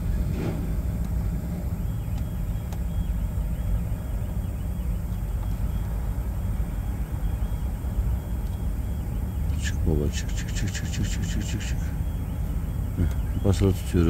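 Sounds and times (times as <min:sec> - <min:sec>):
engine rumble: 0:00.0 - 0:14.0.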